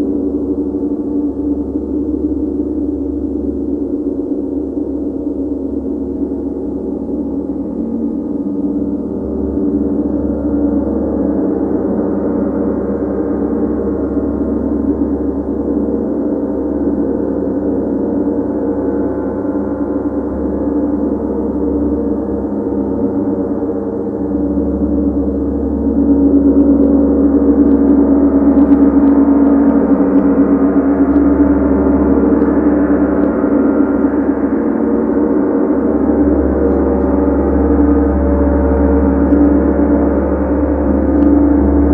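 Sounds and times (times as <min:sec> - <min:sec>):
gong ringing drone: 0:00.0 - 0:41.9.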